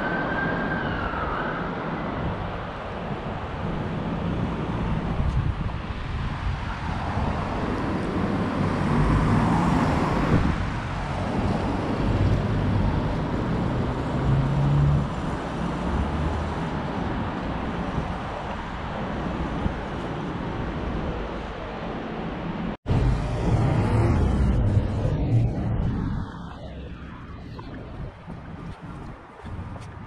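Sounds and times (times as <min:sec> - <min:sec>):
cars passing: 0:01.8 - 0:30.0.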